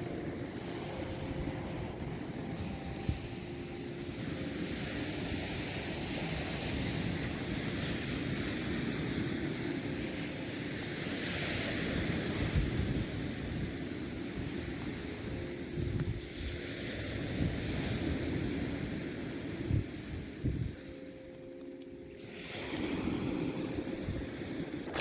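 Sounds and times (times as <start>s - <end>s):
wind buffeting microphone: 0.0s - 21.0s, 22.4s - 25.0s
surf washing onto shore: 0.0s - 21.1s, 22.2s - 25.0s.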